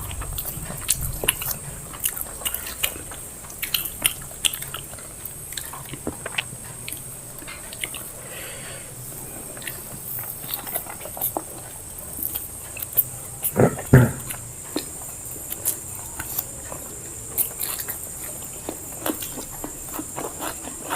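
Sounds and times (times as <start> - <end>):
eating smacks and clicks: 0.0 - 8.2, 9.5 - 20.9
people chewing food: 0.0 - 20.9.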